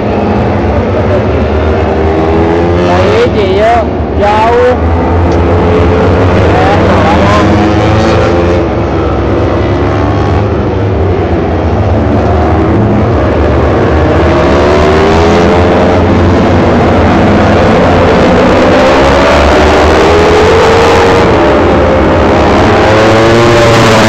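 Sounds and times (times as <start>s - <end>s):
racing motorcycles revving: 0.0s - 24.0s.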